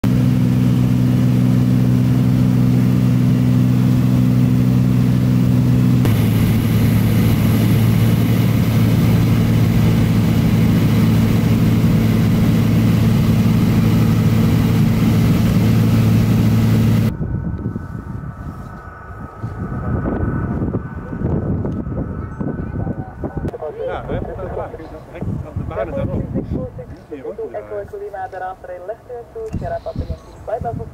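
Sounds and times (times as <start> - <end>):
drone propellers humming: 0.0 - 26.4.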